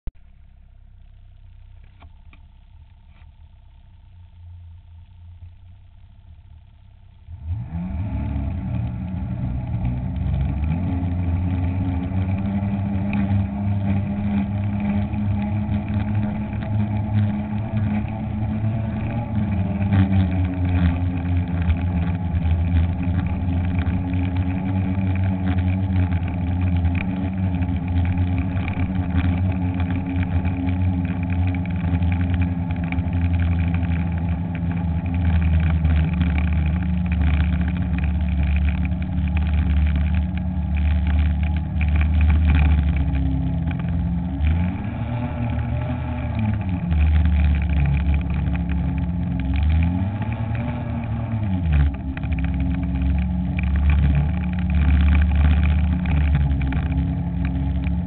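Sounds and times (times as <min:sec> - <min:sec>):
snowmobile engine: 0:00.2 - 0:58.0.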